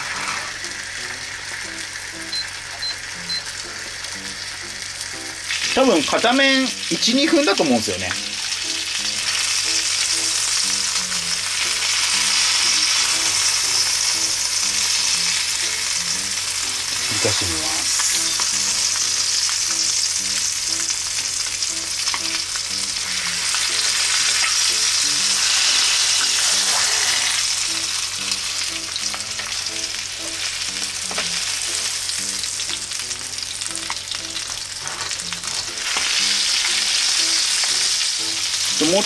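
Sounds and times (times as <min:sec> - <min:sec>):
chicken sizzling in a frying pan: 0:00.0 - 0:39.0.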